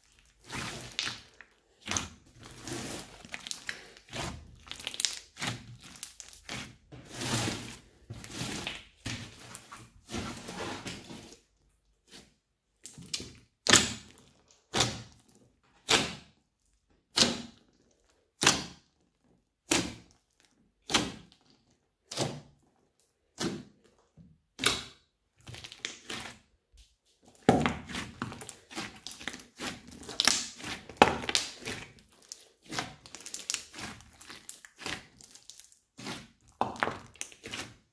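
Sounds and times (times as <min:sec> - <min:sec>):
slime squelching by hand: 0:00.0 - 0:18.8, 0:19.6 - 0:37.9.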